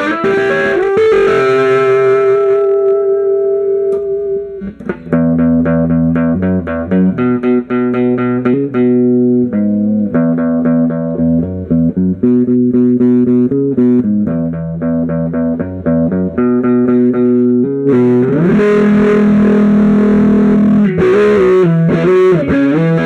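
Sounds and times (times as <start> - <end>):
electric guitar riff and chords: 0.0 - 23.0.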